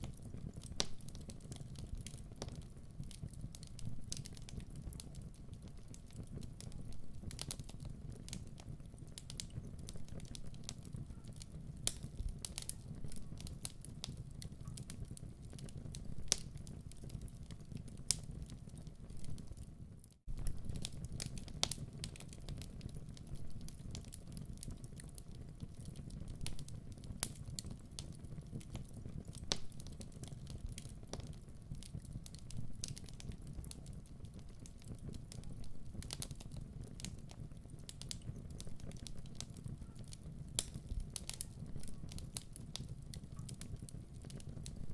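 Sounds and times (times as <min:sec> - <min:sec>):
log fire crackling: 0:00.0 - 0:44.9.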